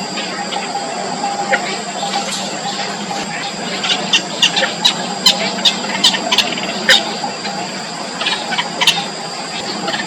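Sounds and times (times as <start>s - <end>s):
nestlings squeaky begging calls: 0.0s - 10.0s.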